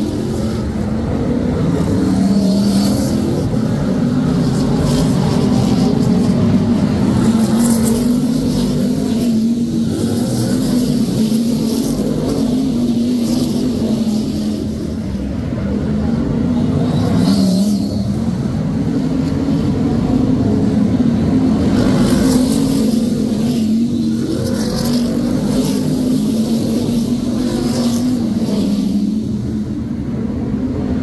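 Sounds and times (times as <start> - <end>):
stock car engines racing: 0.0 - 31.0.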